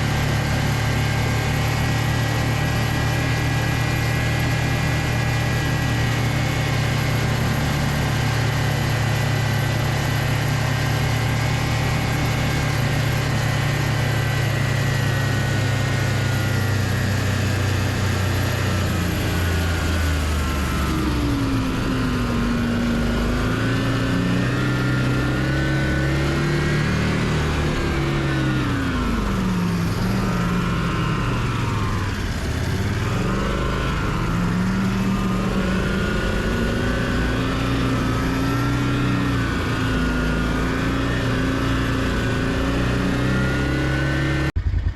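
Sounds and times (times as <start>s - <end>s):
snowmobile engine revving: 0.0s - 44.8s.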